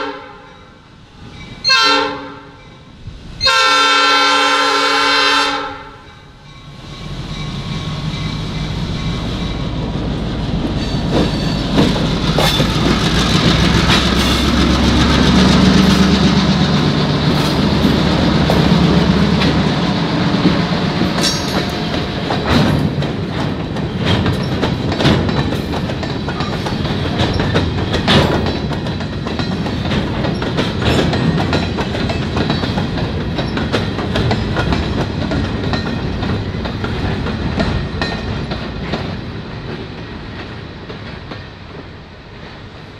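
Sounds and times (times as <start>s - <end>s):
diesel locomotive engines droning: 0.0s - 42.9s
train wheels clacking over rails: 6.4s - 42.9s.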